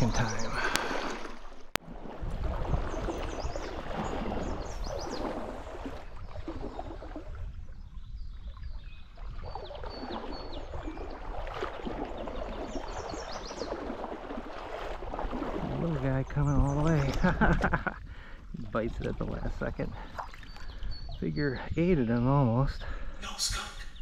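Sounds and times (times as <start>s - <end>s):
songbird chirping: 0.0s - 1.2s, 2.8s - 14.2s, 15.7s - 17.9s, 18.5s - 24.0s
stream water running: 0.0s - 24.0s.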